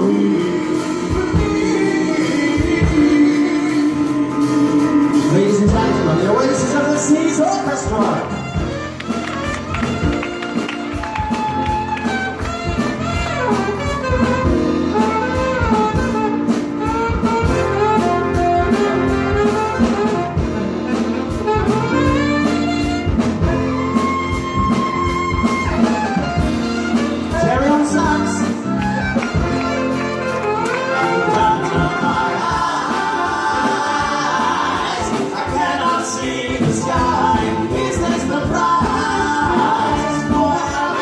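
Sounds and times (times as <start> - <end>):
brass horn lines: 0.0 - 35.8
steady drum beat: 0.0 - 41.0.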